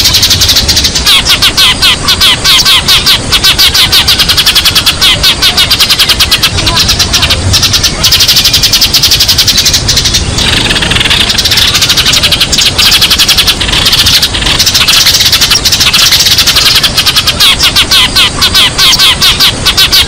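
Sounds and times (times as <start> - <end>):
sparrow flock chirping: 0.0 - 20.0.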